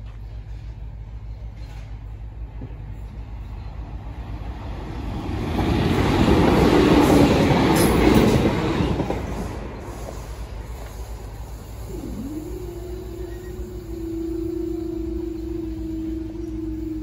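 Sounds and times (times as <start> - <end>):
passenger train passing: 0.1 - 17.0.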